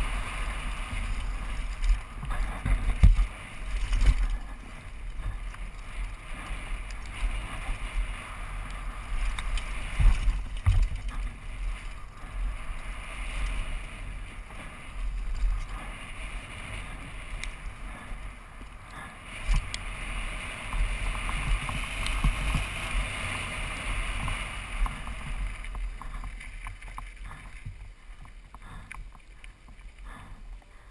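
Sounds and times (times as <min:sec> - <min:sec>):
bike rattling: 0:00.0 - 0:30.7
wind buffeting microphone: 0:00.0 - 0:30.9.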